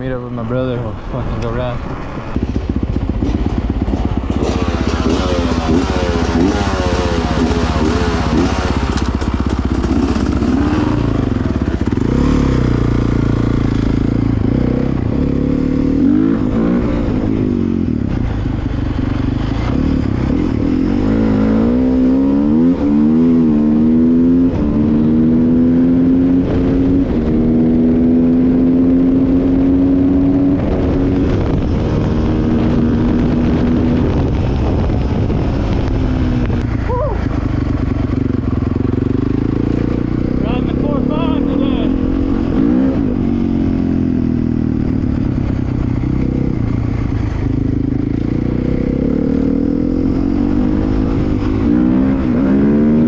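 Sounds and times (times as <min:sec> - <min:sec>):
dirt bike engine revving: 0:02.4 - 0:35.0, 0:36.8 - 0:53.0.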